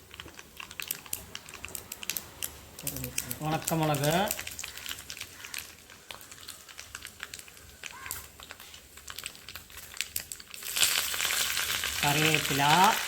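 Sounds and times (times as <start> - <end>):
mustard seeds popping in oil: 0.0 - 13.0
oil sizzling: 0.0 - 13.0.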